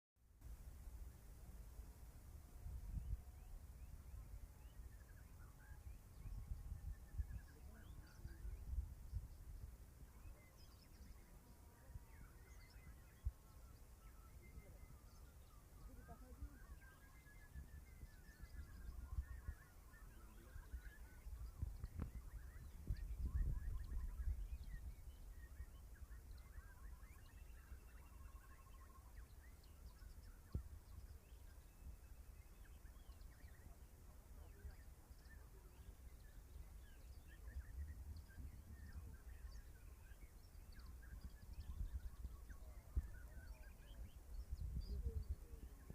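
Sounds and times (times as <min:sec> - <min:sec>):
songbirds chirping: 0:00.2 - 0:45.9
low rumble on microphone: 0:00.4 - 0:45.9.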